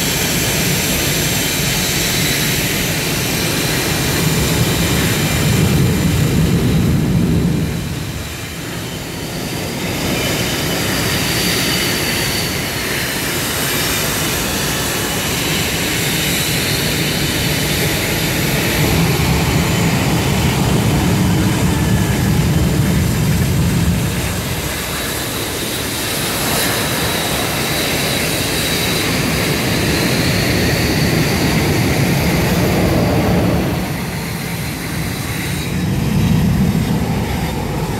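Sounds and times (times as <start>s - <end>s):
jet engines rumbling and whining: 0.0s - 37.9s.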